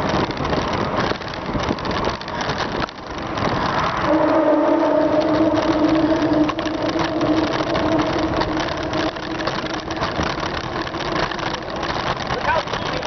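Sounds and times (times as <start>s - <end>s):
vehicle engine humming: 0.0s - 13.0s
wind and bicycle road noise: 0.0s - 13.0s.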